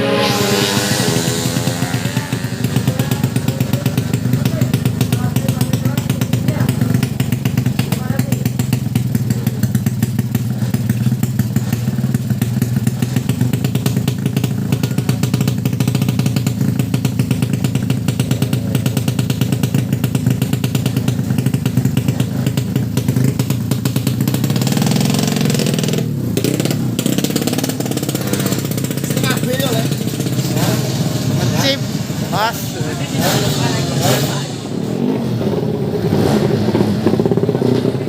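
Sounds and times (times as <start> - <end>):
motorcycle engine running and revving: 0.0 - 38.0.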